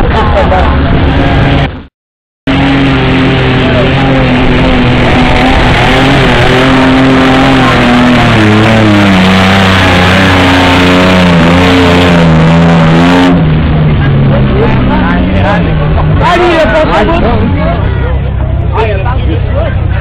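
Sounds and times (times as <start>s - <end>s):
truck engine revving hard: 0.0s - 1.9s, 2.5s - 20.0s.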